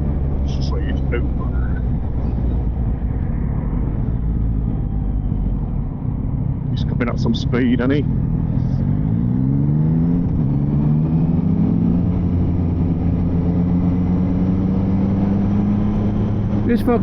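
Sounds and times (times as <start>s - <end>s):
motorcycle engine accelerating: 0.0s - 17.0s
road and wind noise: 0.0s - 17.0s.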